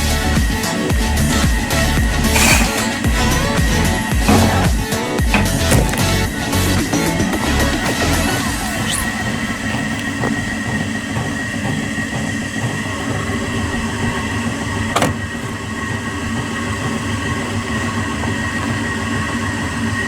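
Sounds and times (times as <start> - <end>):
washing machine rumbling and whining: 0.0 - 20.0.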